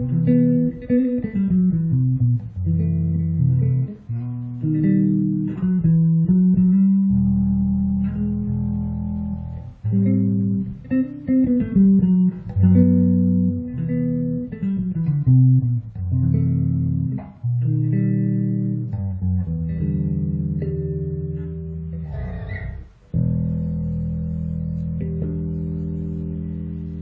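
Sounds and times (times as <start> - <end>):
electric bass playing: 0.0 - 27.0.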